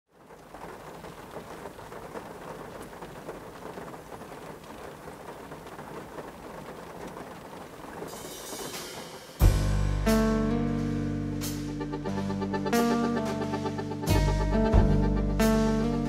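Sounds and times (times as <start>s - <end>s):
steady rain falling: 0.1s - 16.0s.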